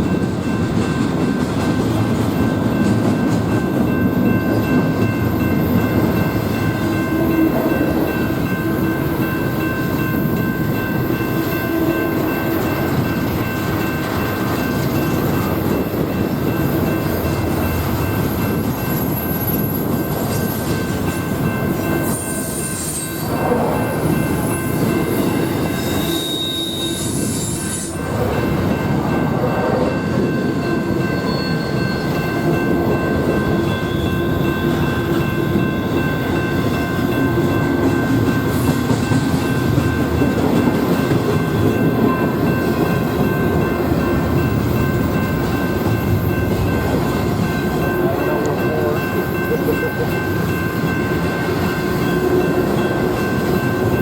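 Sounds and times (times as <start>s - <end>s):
train rumbling past on rails: 0.0s - 54.0s.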